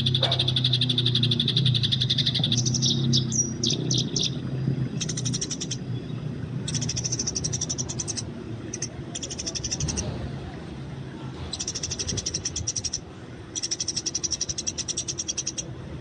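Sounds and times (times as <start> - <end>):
sparrows chirping: 0.0 - 10.6, 11.3 - 16.0.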